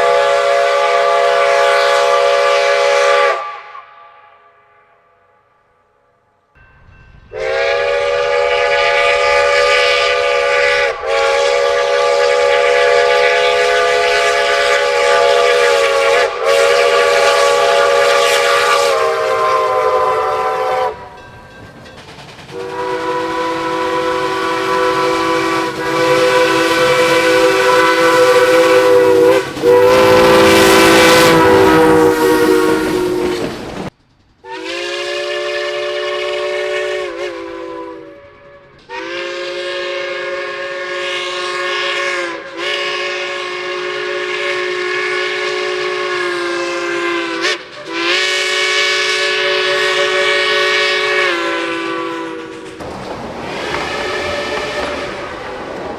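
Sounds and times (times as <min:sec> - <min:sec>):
moving train rumble and hiss: 0:00.0 - 0:03.9, 0:06.6 - 0:55.9
locomotive chime horn blasts: 0:00.0 - 0:21.6, 0:22.5 - 0:33.6, 0:34.4 - 0:52.8, 0:53.5 - 0:55.5.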